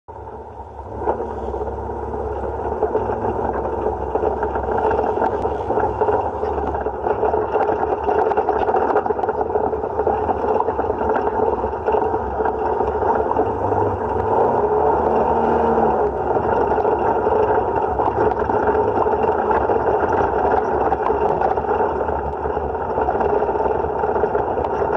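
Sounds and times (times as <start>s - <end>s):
utility vehicle engine droning: 0.1s - 24.9s
small clicks and rattles: 0.4s - 24.9s.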